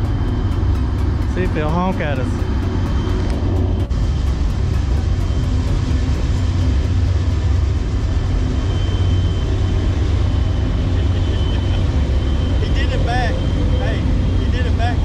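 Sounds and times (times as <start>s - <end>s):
freight train rumbling over bridge: 0.0s - 15.0s.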